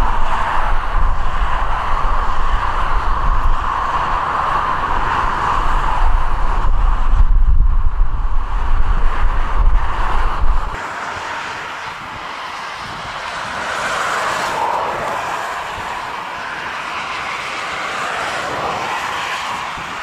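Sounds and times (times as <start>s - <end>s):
distant jet engines rushing: 0.0s - 20.0s.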